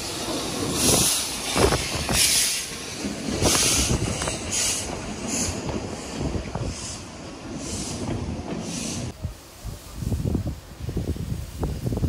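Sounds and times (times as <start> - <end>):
train running on railway: 0.0 - 12.0.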